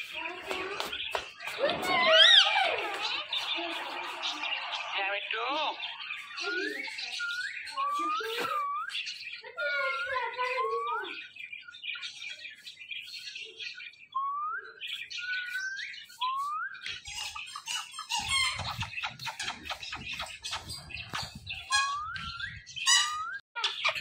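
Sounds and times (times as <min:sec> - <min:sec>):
parakeet whistles and squawks: 0:01.4 - 0:05.0, 0:05.8 - 0:13.8, 0:14.5 - 0:24.0.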